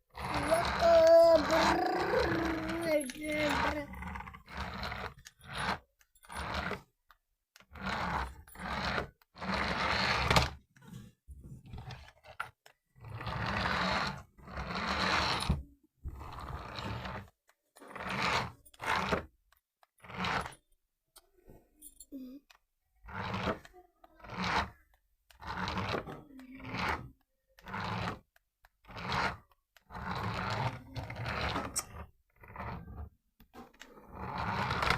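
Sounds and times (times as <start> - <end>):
toy car motor and gears whirring: 0.1 - 11.0, 11.6 - 20.7, 21.8 - 34.9.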